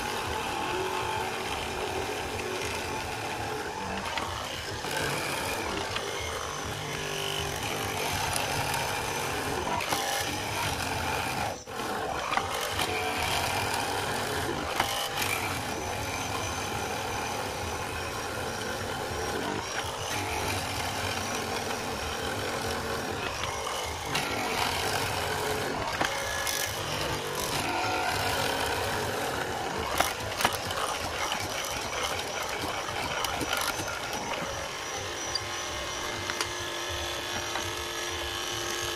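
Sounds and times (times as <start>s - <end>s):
chain cutter rasping wood: 0.0s - 38.9s
motor whining: 0.0s - 38.9s.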